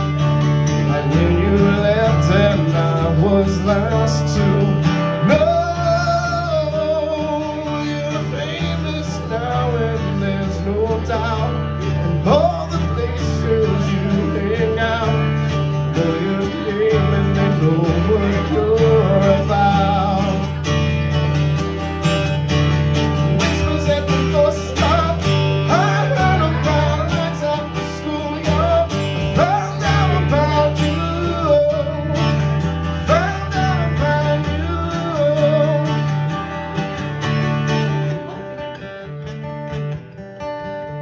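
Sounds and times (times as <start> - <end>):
man singing: 0.0 - 20.8, 22.9 - 38.8
acoustic guitar strumming: 0.0 - 41.0.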